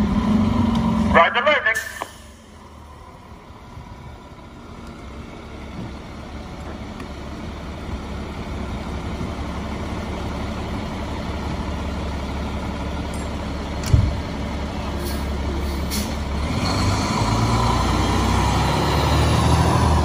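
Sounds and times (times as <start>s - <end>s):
diesel engine running low: 0.0s - 20.0s.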